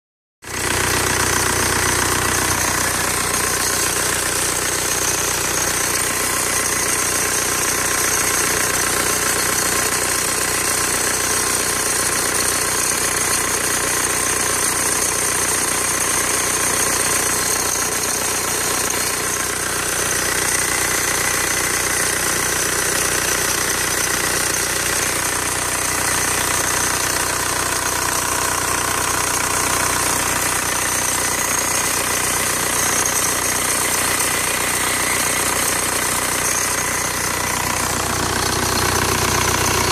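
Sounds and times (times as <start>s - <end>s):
diesel engine running: 0.4s - 39.9s.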